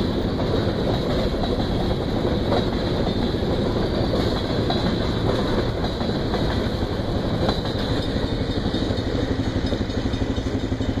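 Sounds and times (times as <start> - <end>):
freight train boxcars rolling past: 0.0 - 11.0.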